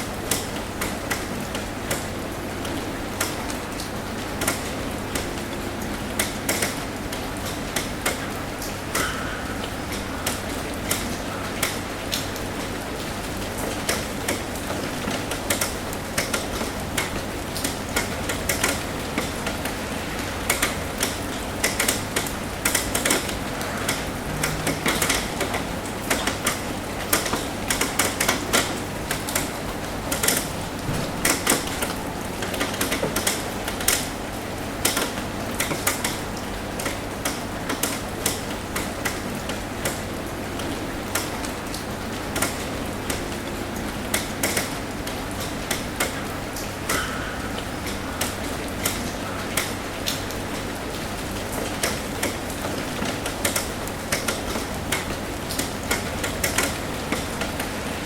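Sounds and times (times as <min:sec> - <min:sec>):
raindrops tapping on a roof: 0:00.0 - 0:58.0
steady hiss of rain: 0:00.0 - 0:58.0.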